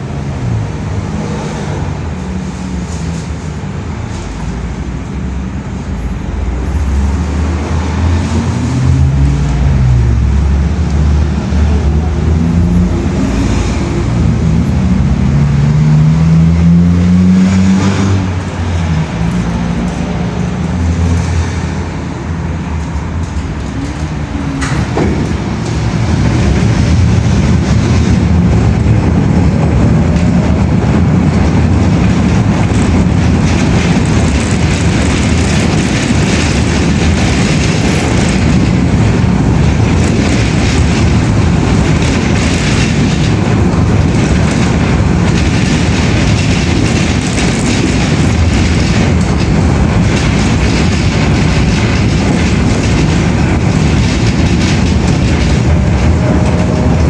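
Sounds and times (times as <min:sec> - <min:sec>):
road noise: 0:00.0 - 0:57.0
vehicle engines running: 0:00.0 - 0:57.0.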